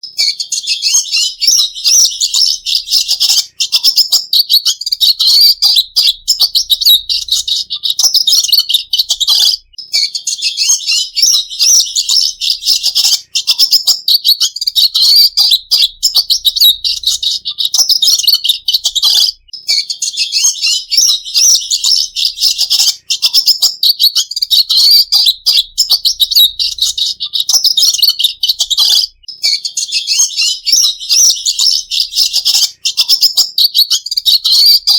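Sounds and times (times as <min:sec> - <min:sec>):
bird twittering warble: 0:00.2 - 0:19.5, 0:20.2 - 0:34.9.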